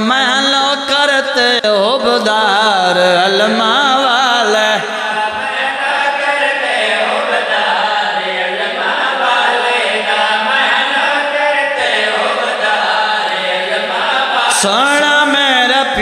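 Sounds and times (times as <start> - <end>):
man chanting into microphone: 0.0 - 16.0.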